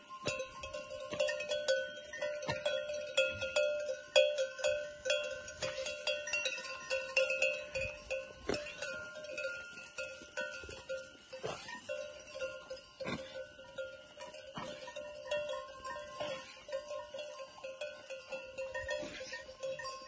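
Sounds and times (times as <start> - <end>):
sheep bells clanking: 0.0 - 20.0.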